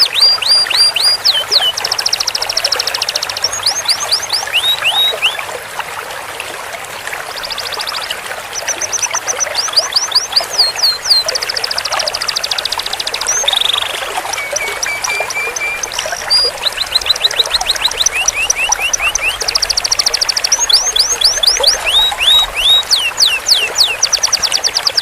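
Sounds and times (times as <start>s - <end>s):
canary singing trills: 0.0s - 5.4s, 7.3s - 25.0s.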